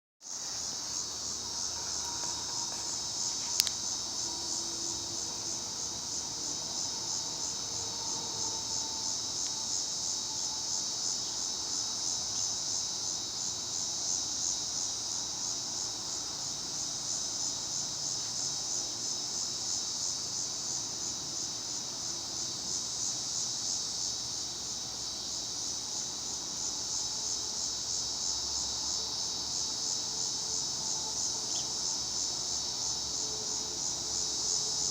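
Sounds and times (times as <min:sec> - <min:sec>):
insect chorus buzzing: 0:00.2 - 0:34.9.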